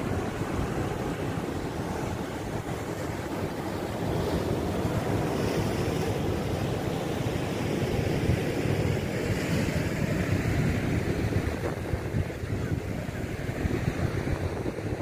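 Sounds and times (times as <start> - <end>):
surf breaking on rocky shore: 0.0 - 15.0
wind buffeting microphone: 0.0 - 15.0.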